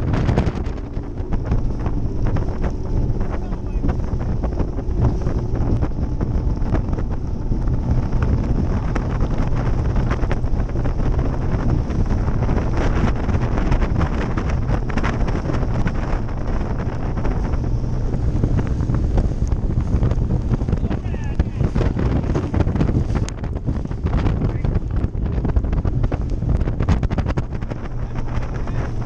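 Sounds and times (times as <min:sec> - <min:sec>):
boat engine and water rush: 0:00.0 - 0:29.0
wind buffeting microphone: 0:00.0 - 0:29.0.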